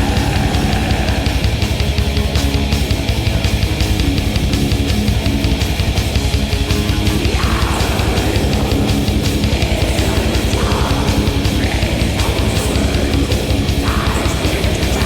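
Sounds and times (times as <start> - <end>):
distorted electric guitars: 0.0 - 15.0
fast pulsing drums: 0.0 - 15.0.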